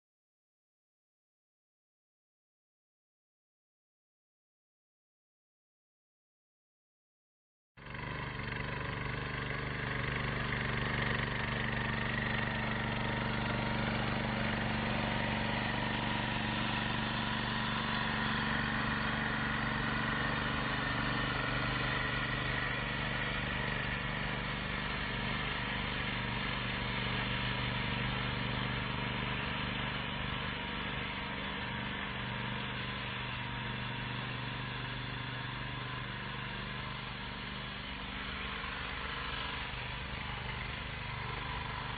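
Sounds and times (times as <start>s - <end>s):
cultivator engine running: 7.8s - 41.9s.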